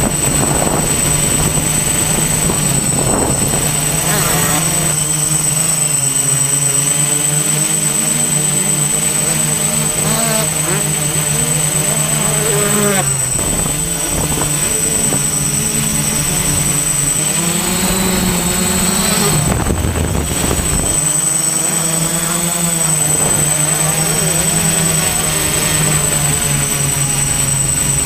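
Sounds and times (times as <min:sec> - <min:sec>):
drone propellers whining: 0:00.0 - 0:28.0
motocross bikes revving: 0:00.0 - 0:28.0.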